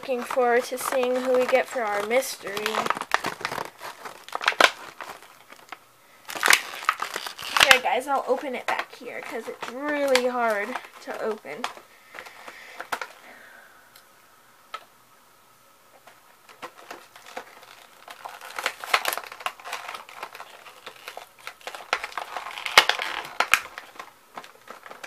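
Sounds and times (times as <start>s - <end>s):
plastic packaging crinkling: 0.0s - 13.4s, 15.9s - 25.0s.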